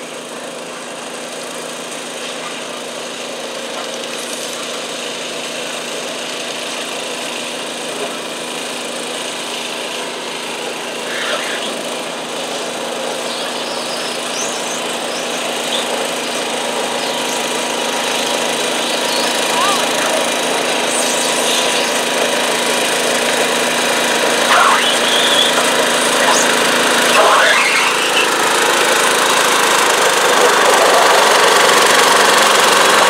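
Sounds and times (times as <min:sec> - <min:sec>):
garden tractor engine running: 0:00.0 - 0:33.0.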